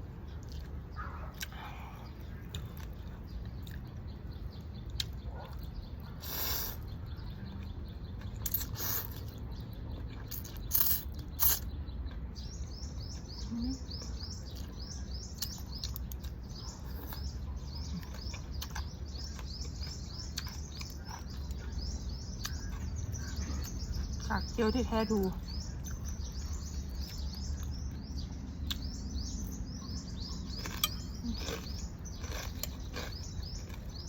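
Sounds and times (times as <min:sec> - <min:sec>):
low background hum: 0:00.0 - 0:34.0
small bird chirping: 0:00.0 - 0:34.0.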